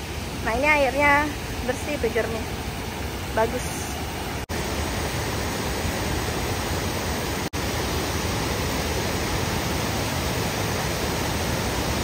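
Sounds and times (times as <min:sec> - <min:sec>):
water rushing over waterfall: 0:00.0 - 0:12.0.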